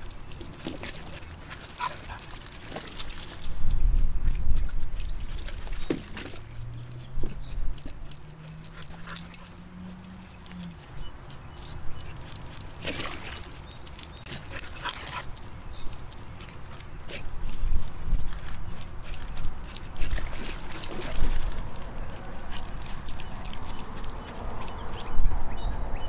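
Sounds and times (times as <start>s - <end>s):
dog collar tags jingling: 0.0s - 26.0s.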